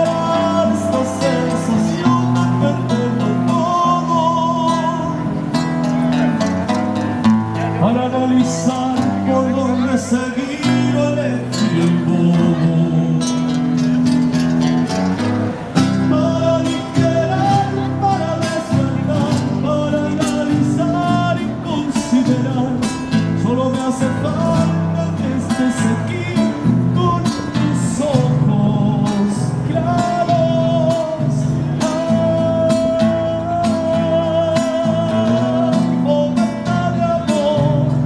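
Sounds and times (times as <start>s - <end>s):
guitar strumming: 0.0s - 38.0s
held melody line: 0.0s - 38.0s.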